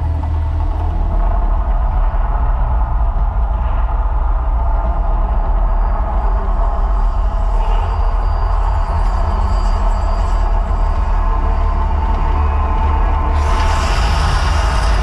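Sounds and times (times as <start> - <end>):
deep rumble from loudspeakers: 0.0 - 15.0.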